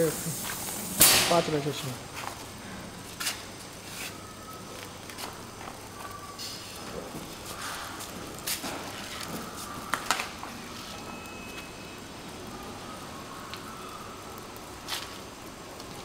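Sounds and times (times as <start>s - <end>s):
steady low background noise: 0.0s - 16.0s.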